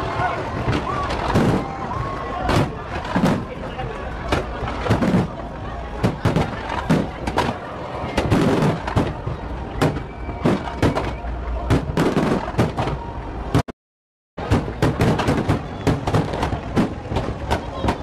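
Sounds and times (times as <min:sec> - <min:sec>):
fireworks bangs and crackles: 0:00.1 - 0:13.7, 0:14.4 - 0:18.0.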